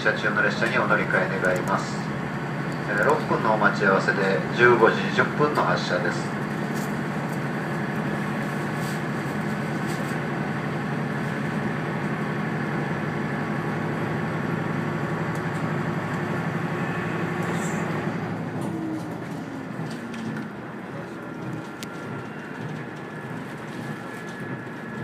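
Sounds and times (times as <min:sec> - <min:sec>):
diesel railcar running: 0:00.0 - 0:25.0.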